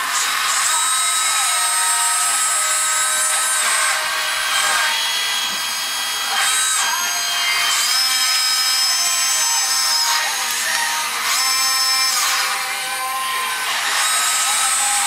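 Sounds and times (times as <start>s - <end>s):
toy electric motors whining: 0.0s - 15.0s.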